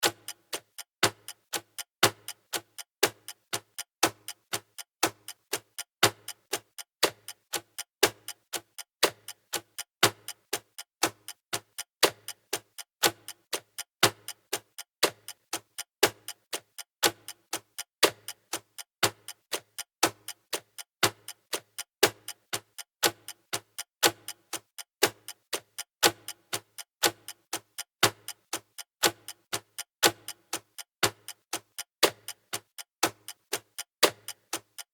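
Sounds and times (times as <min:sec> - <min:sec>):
clock ticking: 0:00.0 - 0:34.9.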